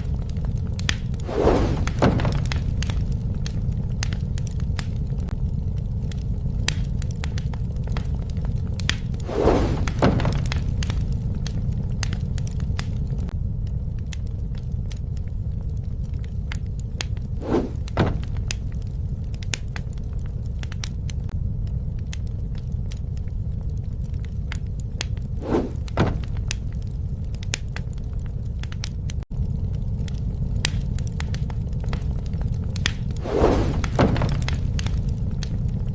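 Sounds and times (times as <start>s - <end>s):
burning wood crackling and popping: 0.0s - 35.9s
low rumble of flames: 0.0s - 35.9s.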